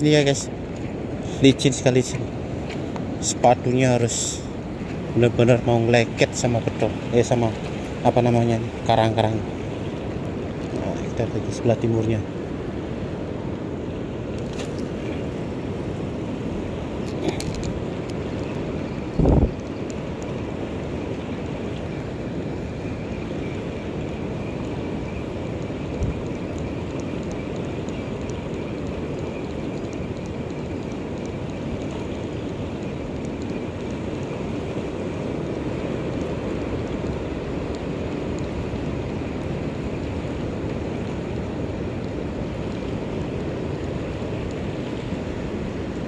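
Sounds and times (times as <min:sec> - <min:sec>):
sea surf on rocks: 0:00.0 - 0:46.0.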